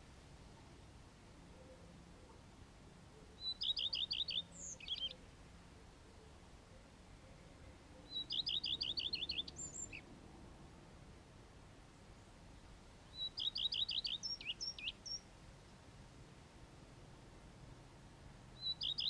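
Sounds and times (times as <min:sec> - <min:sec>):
songbird singing: 0:00.0 - 0:15.7, 0:16.6 - 0:19.0.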